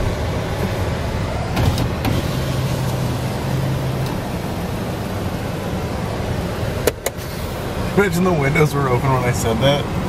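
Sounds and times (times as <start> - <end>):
car engine hum: 0.0 - 10.0
rain on car roof: 0.0 - 10.0.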